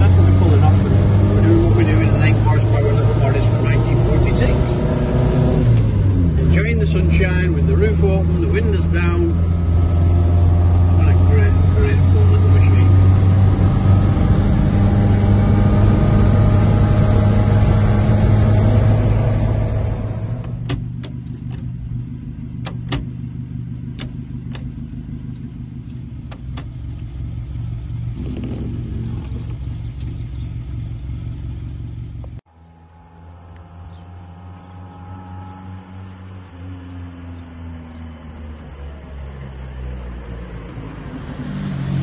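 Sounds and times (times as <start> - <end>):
car engine running: 0.0 - 42.0.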